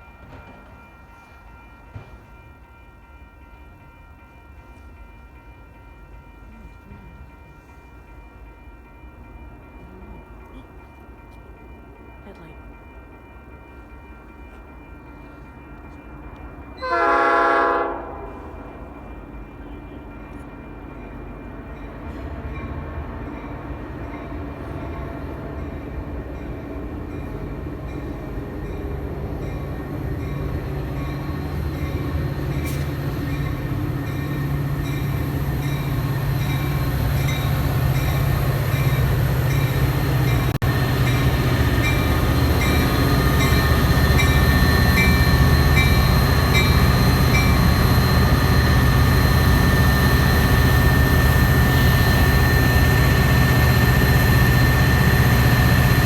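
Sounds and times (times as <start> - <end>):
diesel train engine approaching: 0.0 - 56.0
train bell ringing: 0.0 - 56.0.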